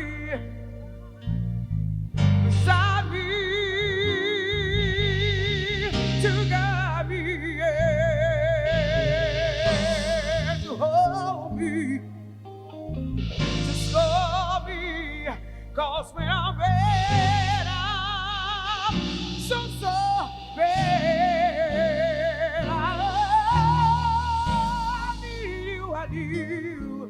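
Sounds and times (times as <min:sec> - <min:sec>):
live soul band playing: 0:00.0 - 0:27.0
woman singing with vibrato: 0:02.6 - 0:12.1, 0:13.6 - 0:27.0.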